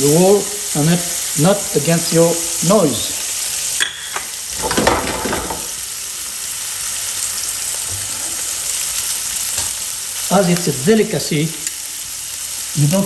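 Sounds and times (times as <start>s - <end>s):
fish fillets sizzling in a pan: 0.0s - 13.0s.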